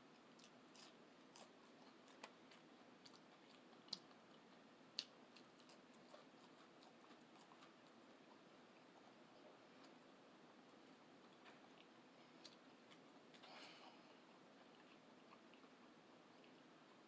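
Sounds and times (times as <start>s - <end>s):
chewing: 0.0s - 17.0s.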